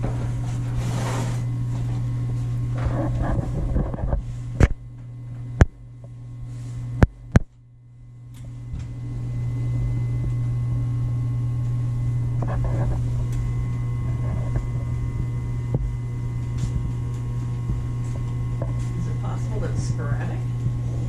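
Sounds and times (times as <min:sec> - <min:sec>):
furnace blower humming: 0:00.0 - 0:21.0.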